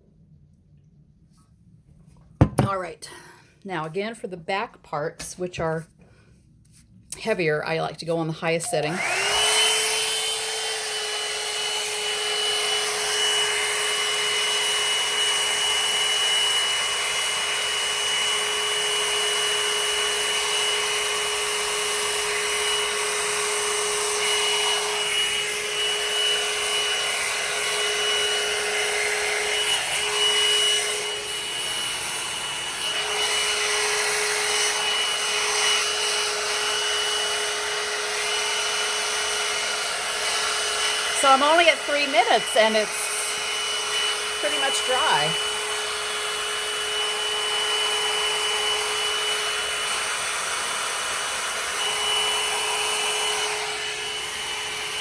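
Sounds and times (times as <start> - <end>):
hair dryer motor whine: 2.4 - 3.4, 7.2 - 55.0.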